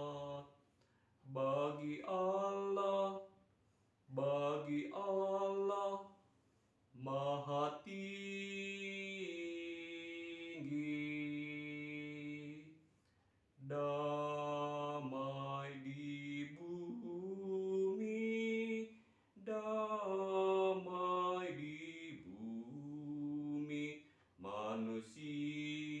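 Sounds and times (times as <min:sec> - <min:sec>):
man singing a hymn: 0:00.0 - 0:00.6, 0:01.3 - 0:03.3, 0:04.1 - 0:06.1, 0:07.0 - 0:12.8, 0:13.6 - 0:26.0.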